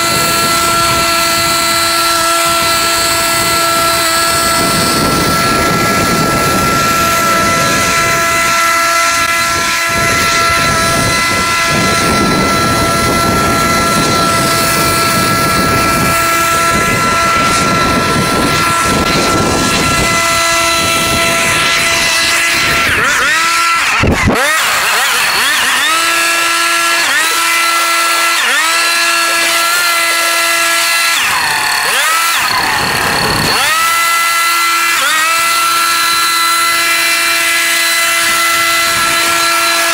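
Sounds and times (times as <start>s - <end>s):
grass cutting noise: 0.0s - 39.9s.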